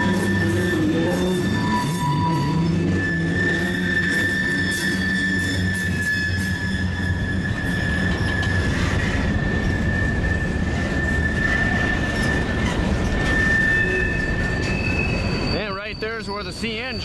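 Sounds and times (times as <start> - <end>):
freight train rumbling: 0.0 - 17.0
wheel flanges squealing: 0.0 - 17.0.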